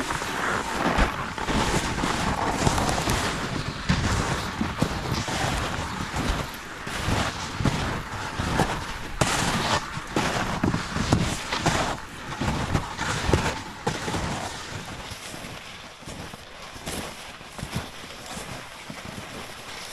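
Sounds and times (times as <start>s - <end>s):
footsteps crunching in snow: 0.0s - 19.9s.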